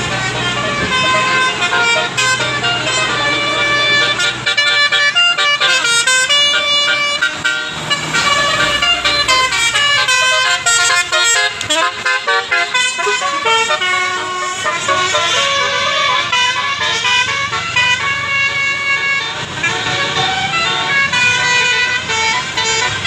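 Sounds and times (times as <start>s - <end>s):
bus horn playing fast melody: 0.0s - 23.0s.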